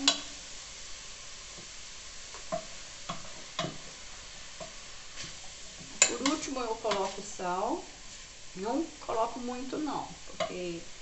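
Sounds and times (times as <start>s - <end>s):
filling sizzling in a pot: 0.0s - 11.0s.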